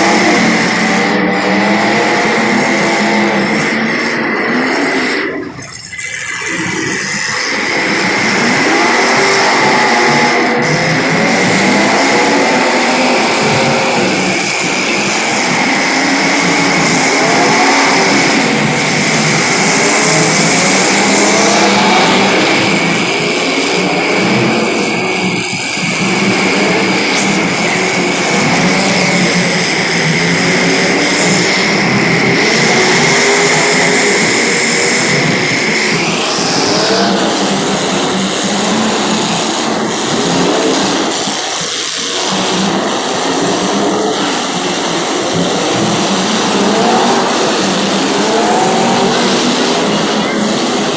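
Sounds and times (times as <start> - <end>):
race car engines revving: 0.0 - 50.9
steady high whine: 0.0 - 50.9.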